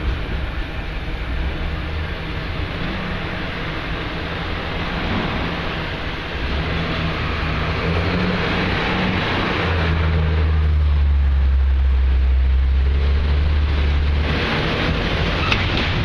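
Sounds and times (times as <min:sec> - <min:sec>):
diesel locomotive engine drone: 0:00.0 - 0:16.0
train wheels rumbling on rail: 0:00.0 - 0:16.0.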